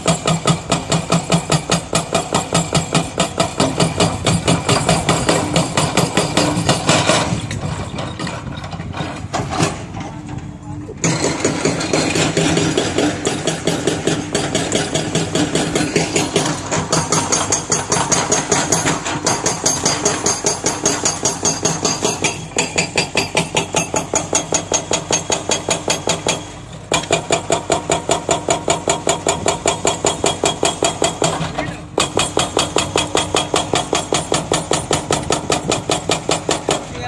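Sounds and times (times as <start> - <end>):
excavator engine running: 0.0 - 37.0
hydraulic breaker hammering rock: 0.0 - 37.0.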